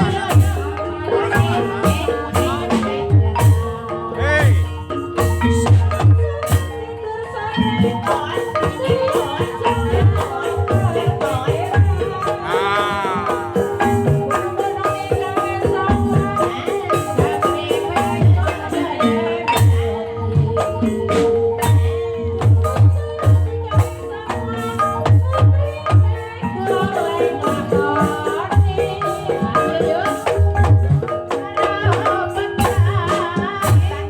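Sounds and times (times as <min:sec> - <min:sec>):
mallet-struck keyed instruments: 0:00.0 - 0:34.0.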